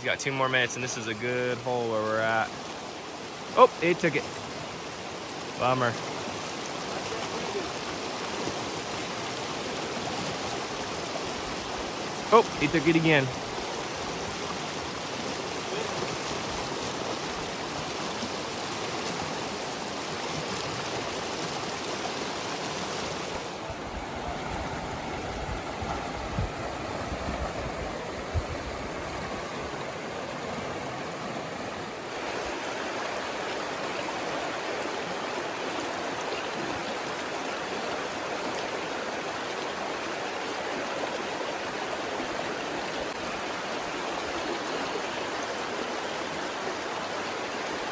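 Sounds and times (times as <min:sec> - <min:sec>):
creek water running: 0:00.0 - 0:47.9.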